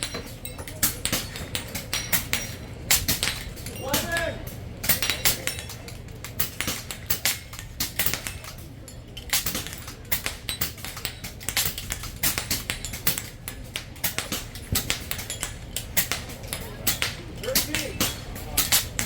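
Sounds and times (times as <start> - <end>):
air rifles firing: 0.0 - 19.0.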